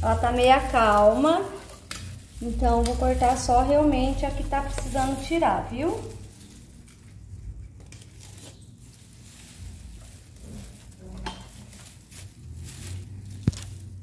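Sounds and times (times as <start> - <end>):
leaves rustling: 0.0 - 14.0.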